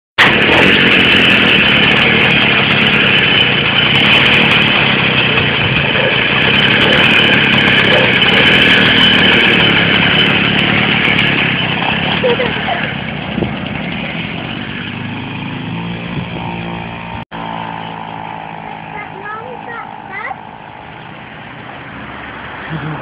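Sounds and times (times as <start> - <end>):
two-stroke engine running: 0.2 - 23.0.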